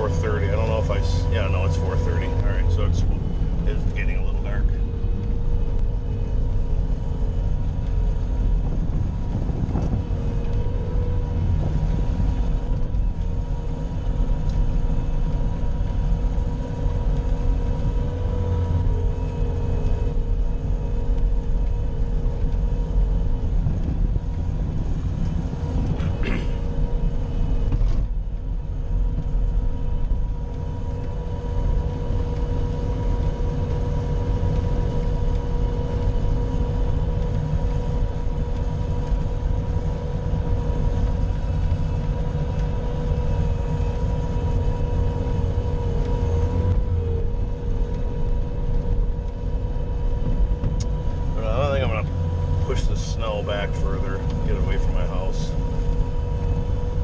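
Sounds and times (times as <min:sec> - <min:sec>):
diesel engine rumbling under load: 0:00.0 - 0:57.0
steady whine: 0:00.0 - 0:57.0.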